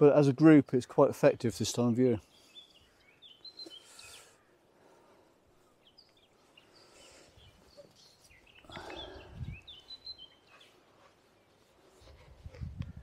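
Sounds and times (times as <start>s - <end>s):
small birds singing: 0.6s - 13.0s.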